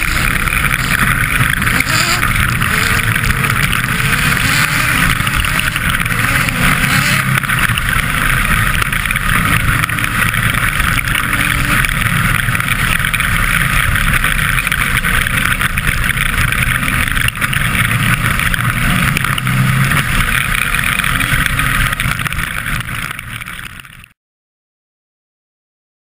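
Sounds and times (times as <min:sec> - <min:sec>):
turbocharged engine running hard: 0:00.0 - 0:24.2
wind and road noise: 0:00.0 - 0:24.2.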